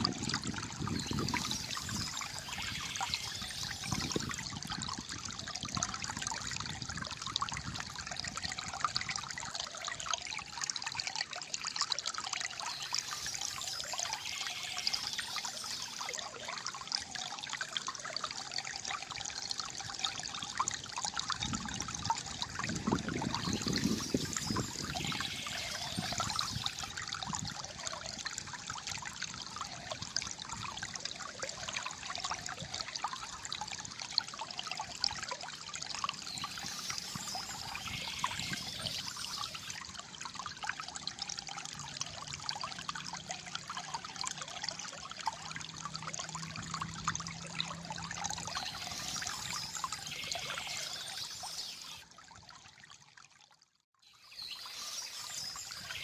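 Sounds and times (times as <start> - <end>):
water trickling and gurgling: 0.0 - 56.0.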